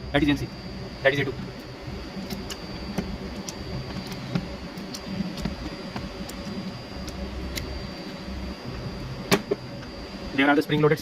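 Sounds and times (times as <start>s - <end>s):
faint high whine: 0.0s - 11.0s
low hum: 0.0s - 11.0s.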